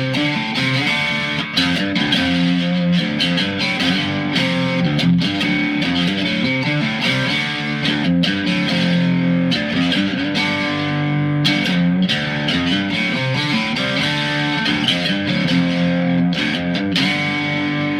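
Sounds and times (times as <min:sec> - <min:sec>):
electric guitar low chords: 0:00.0 - 0:17.9.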